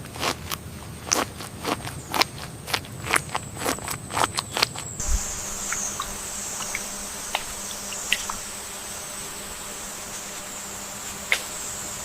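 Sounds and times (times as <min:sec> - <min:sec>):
high insect drone: 0:01.6 - 0:12.0.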